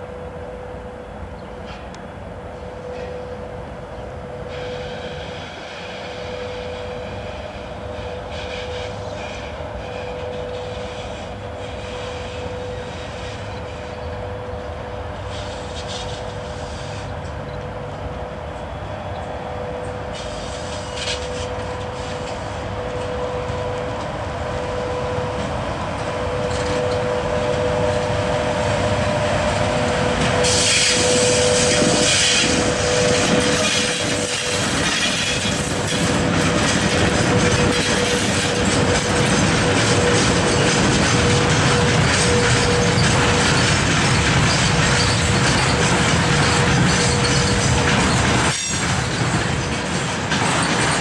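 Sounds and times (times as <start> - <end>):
electric locomotive hum: 0.0 - 51.0
train rumble: 0.0 - 51.0
wheels on rails: 7.3 - 51.0.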